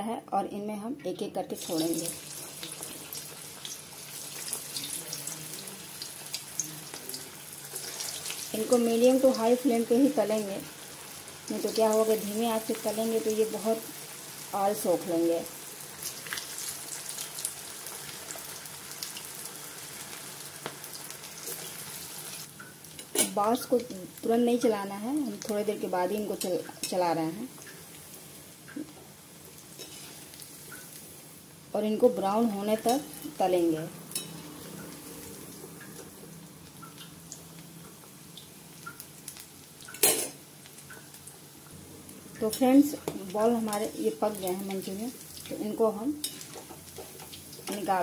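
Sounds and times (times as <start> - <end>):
food deep-frying in oil: 1.2 - 48.0.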